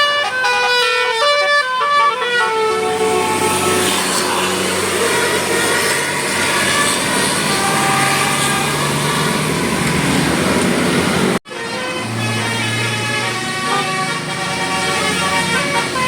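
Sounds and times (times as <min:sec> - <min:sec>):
street and traffic noise: 0:00.0 - 0:16.0
large vehicle engine running: 0:02.8 - 0:16.0.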